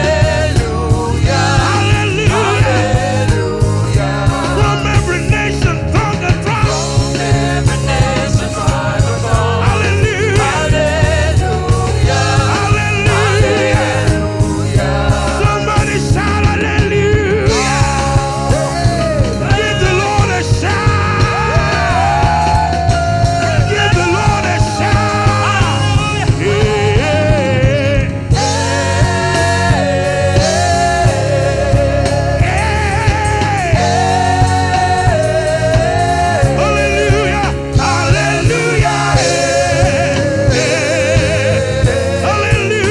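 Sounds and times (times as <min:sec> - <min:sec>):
wavering lead melody: 0:00.0 - 0:42.9
worship band music: 0:00.0 - 0:42.9.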